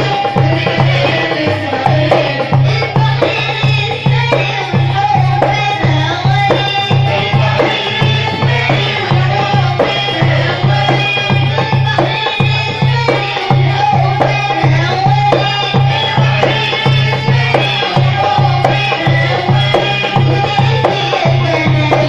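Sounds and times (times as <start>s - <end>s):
drum steady beat: 0.0s - 22.0s
folk band playing: 0.0s - 22.0s.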